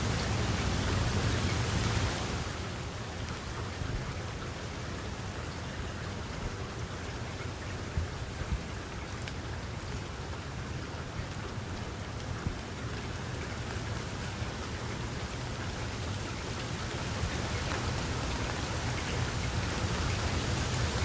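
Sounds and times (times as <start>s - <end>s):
rain drops pattering: 0.0s - 21.0s.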